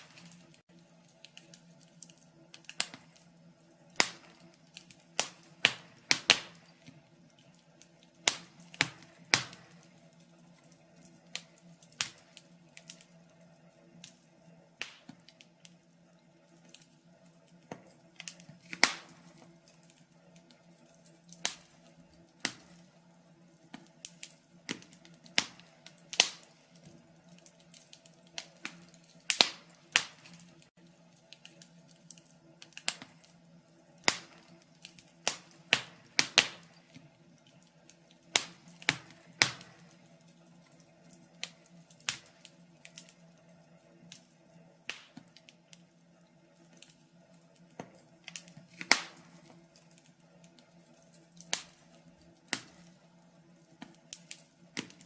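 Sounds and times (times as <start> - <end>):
logs crackling in fireplace: 0.0 - 55.0.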